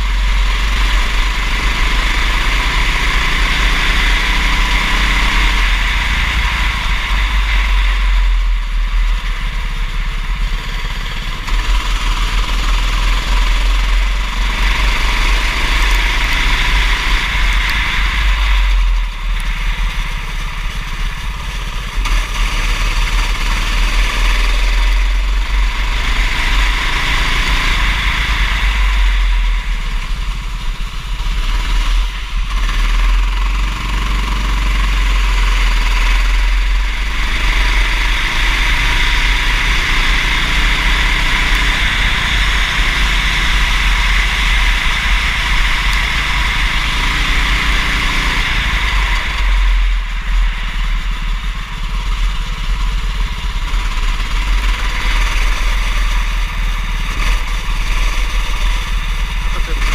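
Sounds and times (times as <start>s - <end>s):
kart engine revving: 0.0s - 59.9s
low rumble: 0.0s - 59.9s.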